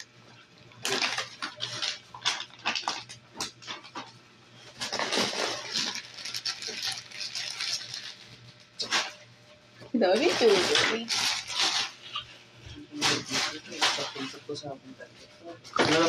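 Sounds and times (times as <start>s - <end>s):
plastic packaging crinkling and tearing: 0.7s - 9.2s, 10.1s - 14.5s.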